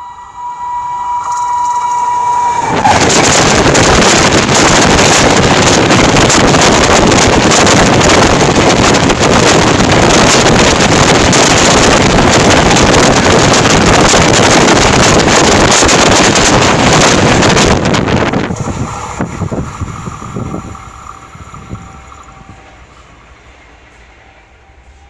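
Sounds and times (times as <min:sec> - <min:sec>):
train wheels and rushing air: 0:01.2 - 0:25.0.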